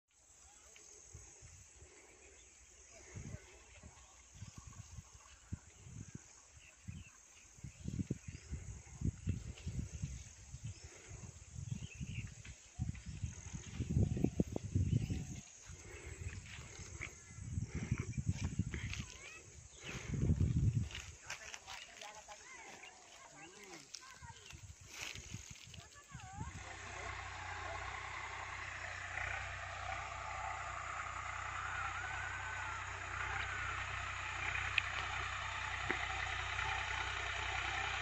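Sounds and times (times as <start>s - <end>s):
insect drone: 0.1s - 38.0s.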